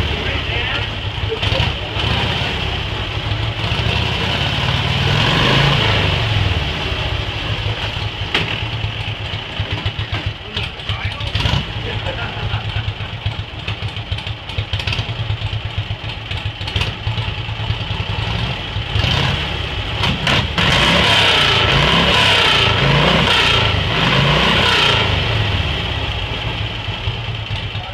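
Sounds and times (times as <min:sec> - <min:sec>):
motorcycle engine idling and revving: 0:00.0 - 0:27.9.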